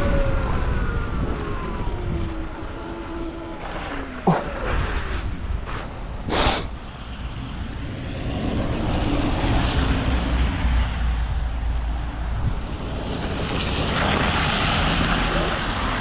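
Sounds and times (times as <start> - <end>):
electric dirt bike riding noise: 0.0 - 6.3, 7.4 - 16.0
wind rumbling on microphone: 0.0 - 16.0.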